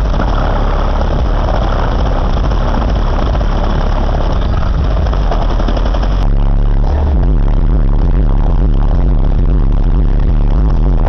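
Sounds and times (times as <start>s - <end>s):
loud deep bass from subwoofers: 0.0s - 11.0s.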